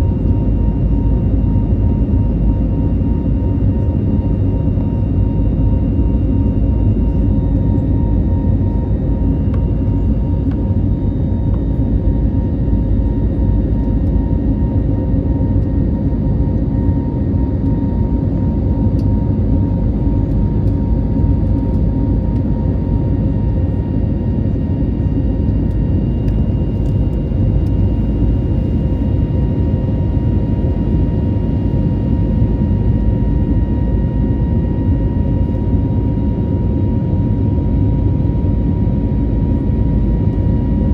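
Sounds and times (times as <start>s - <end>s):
airliner engine rumble: 0.0s - 40.9s.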